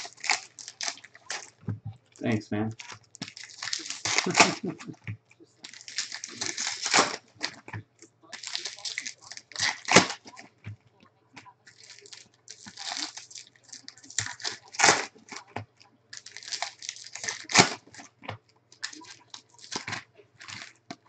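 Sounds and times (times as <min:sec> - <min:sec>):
foil wrappers crinkling and tearing: 0:00.0 - 0:10.8, 0:11.7 - 0:21.0.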